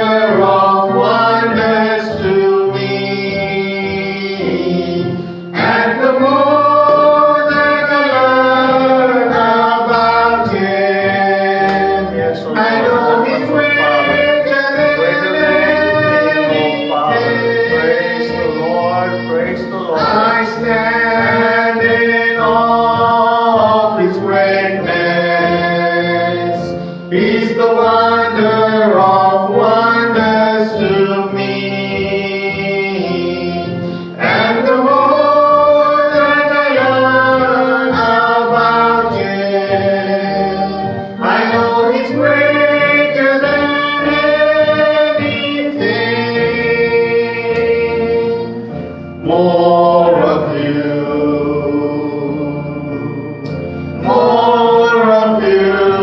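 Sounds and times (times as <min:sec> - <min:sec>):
man and boy singing a hymn: 0:00.0 - 0:56.0.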